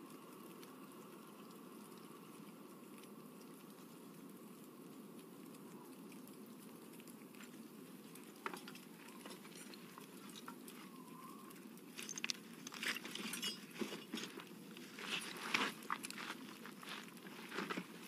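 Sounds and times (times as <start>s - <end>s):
crackles and ticks: 0.0s - 18.0s.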